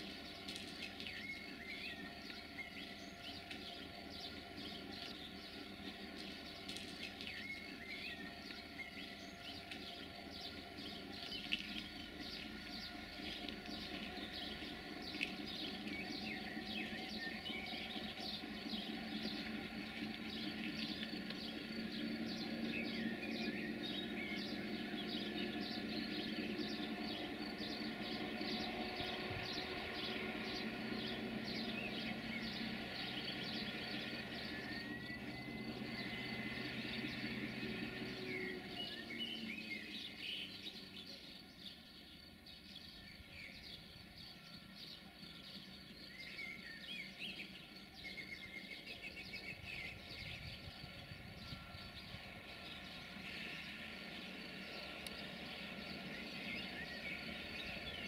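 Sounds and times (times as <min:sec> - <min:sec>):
birds chirping: 0:00.0 - 0:58.0
low steady train hum: 0:00.0 - 0:58.0.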